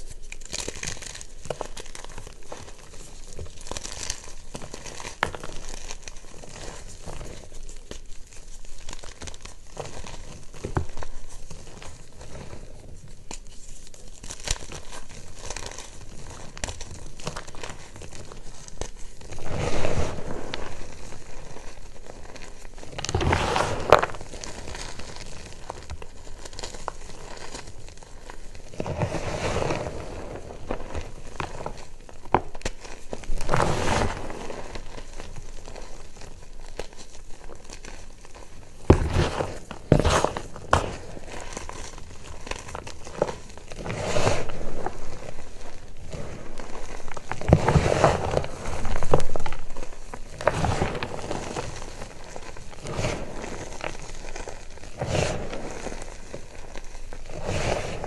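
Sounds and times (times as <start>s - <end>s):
hands crushing chalk lumps: 0.0s - 58.0s.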